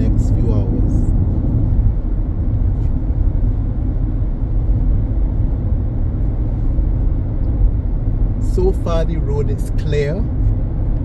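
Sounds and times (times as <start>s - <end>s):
car engine: 0.0s - 11.0s
car interior road noise: 0.0s - 11.0s.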